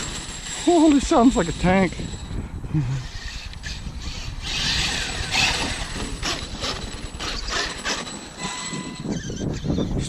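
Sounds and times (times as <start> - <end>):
rc truck rumbling and clattering: 0.0 - 10.0.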